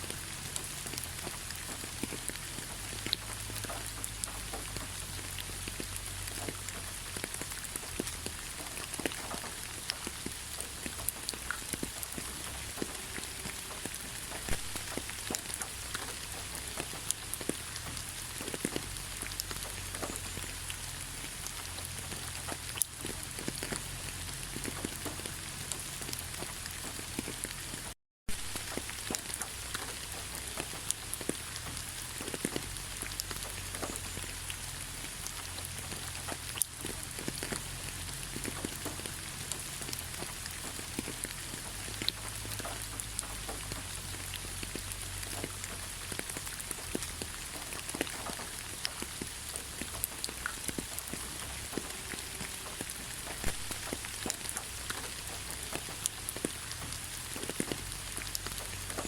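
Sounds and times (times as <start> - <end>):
rain falling in forest: 0.0 - 59.0
raindrops ticking: 0.0 - 59.0.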